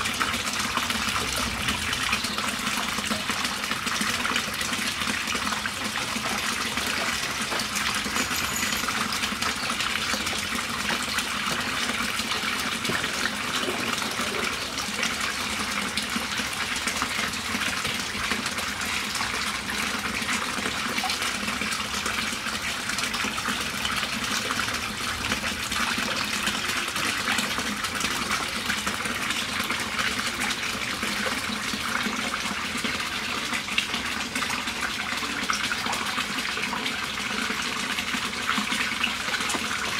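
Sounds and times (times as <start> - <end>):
water splashing into pond: 0.0 - 39.9.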